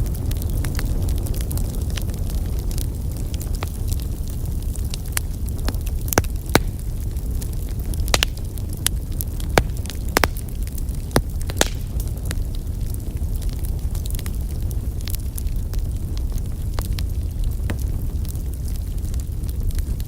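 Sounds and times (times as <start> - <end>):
fire crackles and pops: 0.0 - 20.0
fire rumbling: 0.0 - 20.0.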